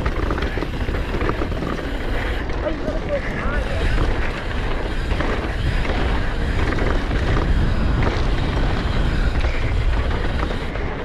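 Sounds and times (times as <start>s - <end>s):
bike rattling: 0.0s - 11.0s
tyres rolling over dirt: 0.0s - 11.0s
wind buffeting microphone: 0.0s - 11.0s.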